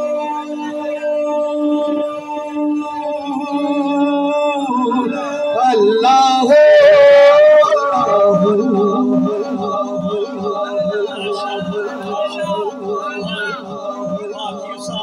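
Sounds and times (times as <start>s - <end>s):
men singing devotional chant: 0.0s - 15.0s.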